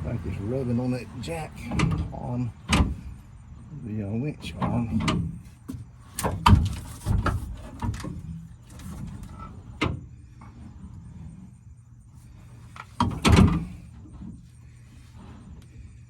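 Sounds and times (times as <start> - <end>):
tire knocking and scraping on metal: 0.0 - 16.0.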